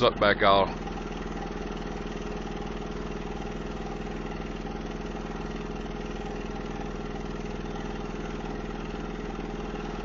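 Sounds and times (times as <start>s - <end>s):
machine humming with pulsing rattle: 0.0s - 10.0s.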